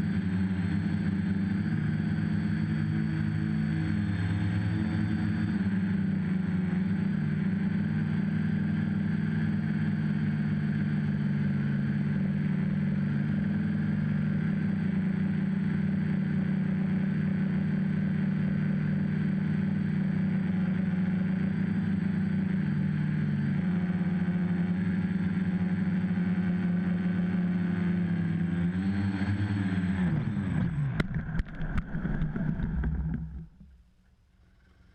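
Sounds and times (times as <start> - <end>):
copter motors humming: 0.0 - 34.9.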